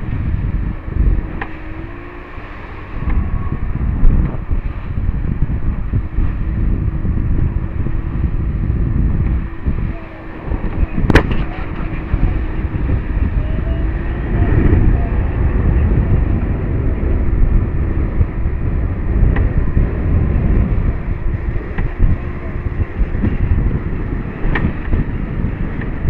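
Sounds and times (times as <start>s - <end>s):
boat engine drone: 0.0s - 26.0s
water splashing against hull: 0.0s - 26.0s
wind buffeting microphone: 0.0s - 26.0s.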